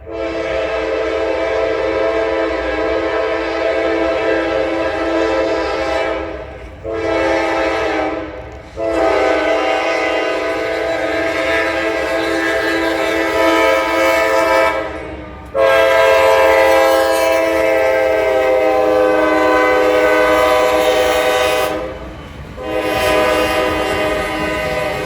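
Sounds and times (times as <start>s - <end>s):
locomotive air horn blasts: 0.0s - 25.0s
low train rumble: 0.0s - 25.0s.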